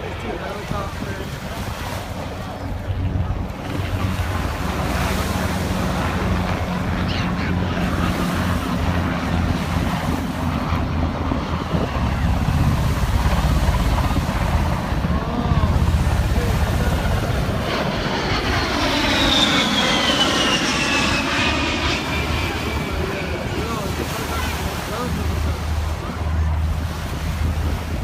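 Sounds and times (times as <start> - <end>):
helicopter rotor drone: 0.0 - 28.0
surf: 0.0 - 28.0
wind on microphone: 0.0 - 28.0.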